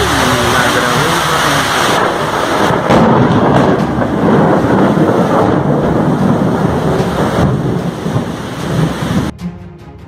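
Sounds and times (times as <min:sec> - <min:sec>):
rain falling: 0:00.0 - 0:09.3
thunder rumbling: 0:00.0 - 0:09.3.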